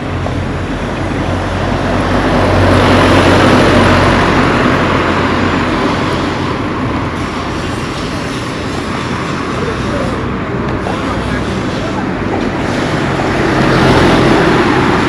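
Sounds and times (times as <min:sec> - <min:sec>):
motor vehicle passing by: 0:00.0 - 0:15.0.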